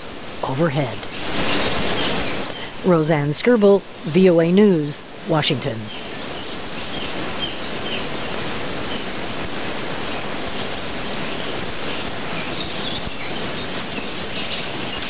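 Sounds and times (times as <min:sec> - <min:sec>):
bat swarm chittering: 0:00.0 - 0:15.0.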